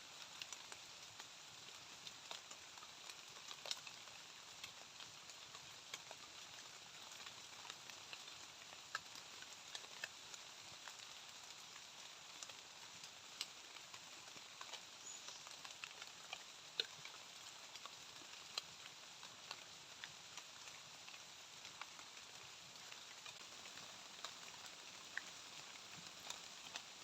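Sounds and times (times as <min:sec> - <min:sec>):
light rain hiss: 0:00.0 - 0:27.0
raindrops ticking: 0:00.1 - 0:27.0.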